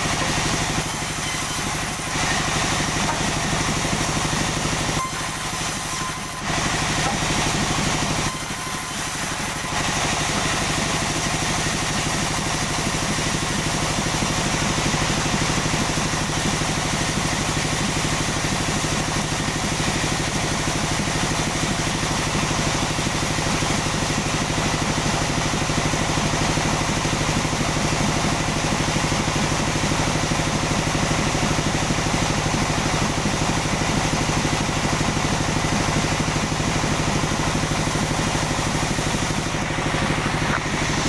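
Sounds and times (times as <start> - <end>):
machine engine idling: 0.0 - 41.0.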